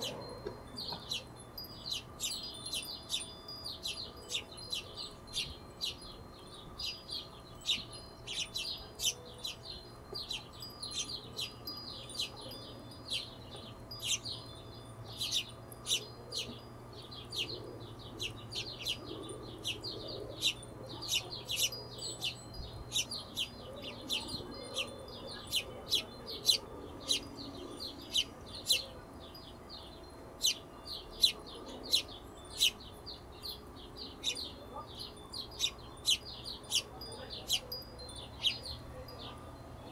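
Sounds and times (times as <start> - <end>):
hummingbirds chipping: 0.0 - 39.9.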